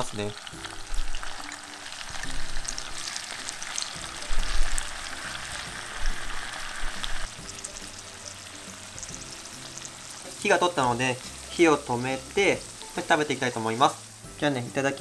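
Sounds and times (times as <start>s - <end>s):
shrimp sizzling in oil: 0.0s - 15.0s.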